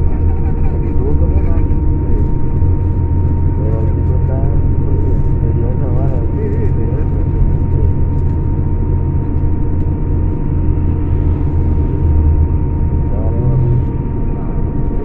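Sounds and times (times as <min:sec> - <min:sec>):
coach engine rumbling: 0:00.0 - 0:15.0.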